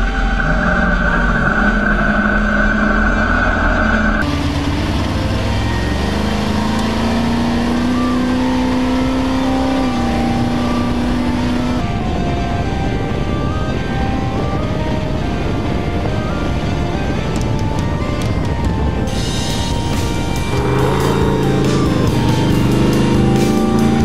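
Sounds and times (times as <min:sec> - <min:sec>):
truck engine running hard: 0:00.0 - 0:24.0.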